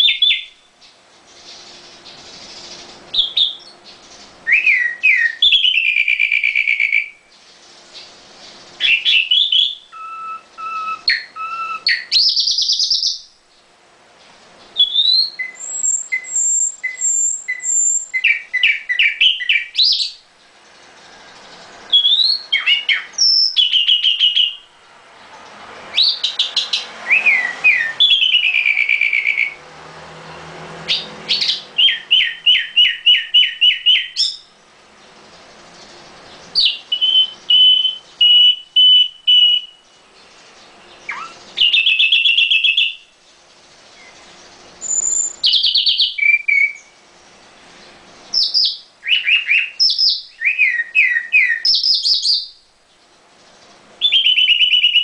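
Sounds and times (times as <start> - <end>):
bird singing whistled notes: 0.0 - 0.7, 1.4 - 13.7, 14.6 - 20.2, 20.8 - 24.7, 25.9 - 29.6, 30.9 - 34.6, 35.8 - 55.0.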